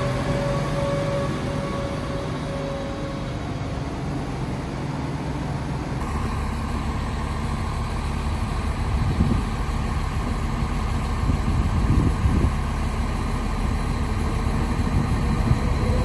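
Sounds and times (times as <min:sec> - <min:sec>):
train engine humming: 0:00.0 - 0:16.0.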